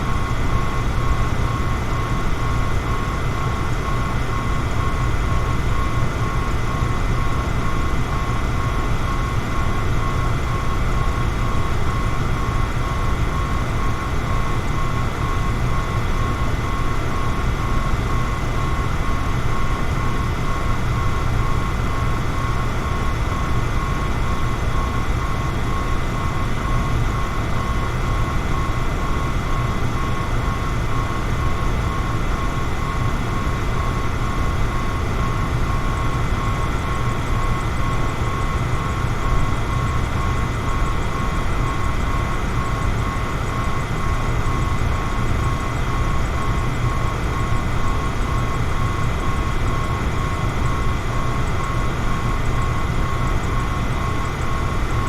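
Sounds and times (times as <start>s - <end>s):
electric fan running: 0.0s - 55.0s
thin pulsing whine: 0.0s - 55.0s.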